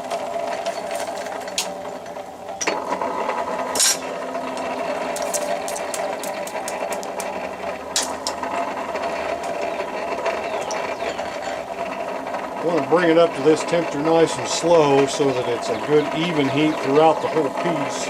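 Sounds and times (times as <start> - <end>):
forge blower humming: 0.0 - 18.0.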